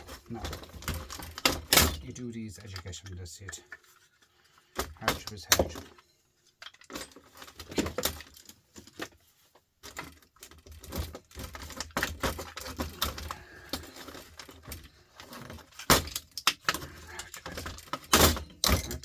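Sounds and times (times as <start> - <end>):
hand tools clicking and rattling: 0.0 - 9.2, 9.8 - 19.0.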